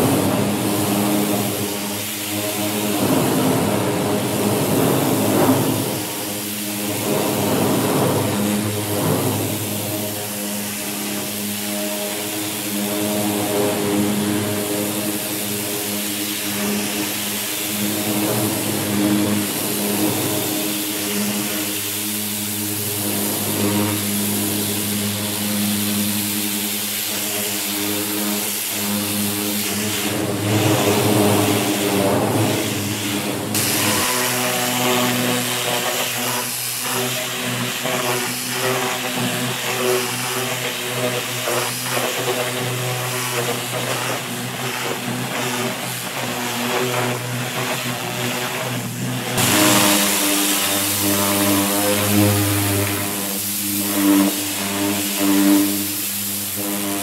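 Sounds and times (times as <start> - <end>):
pressure washer hum: 0.0 - 57.0
water jet hissing on metal: 0.0 - 57.0.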